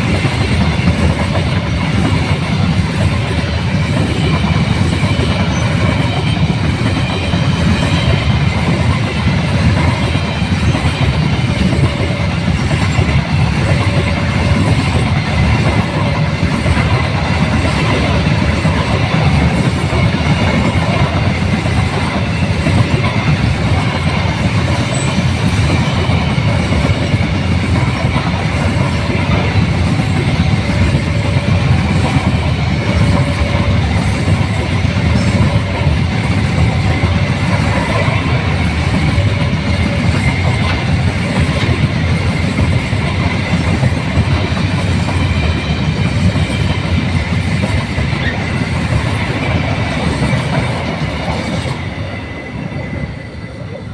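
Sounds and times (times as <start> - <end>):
train wagons rumbling on rails: 0.0 - 53.9
faint high wheel squeal: 1.7 - 16.5, 17.3 - 50.8.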